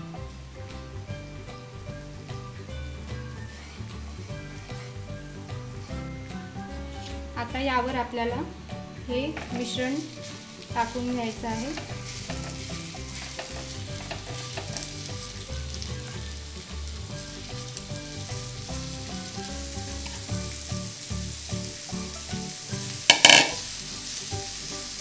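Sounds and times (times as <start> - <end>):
potato frying in butter: 0.2 - 25.0.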